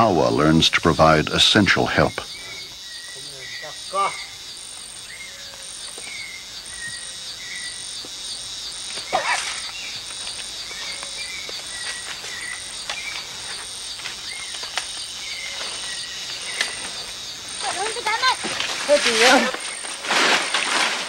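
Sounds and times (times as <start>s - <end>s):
bird chirping: 0.0s - 20.0s
insects chorus: 0.0s - 21.0s.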